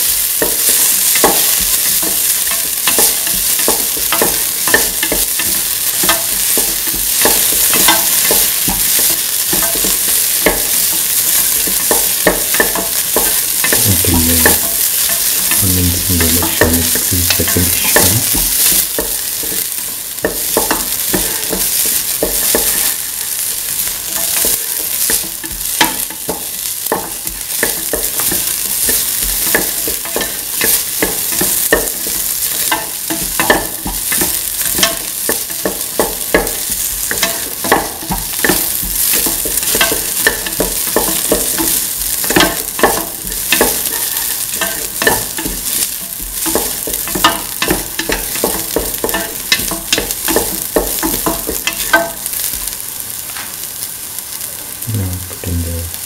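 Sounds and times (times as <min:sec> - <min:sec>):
onion sizzling in hot oil: 0:00.0 - 0:56.0.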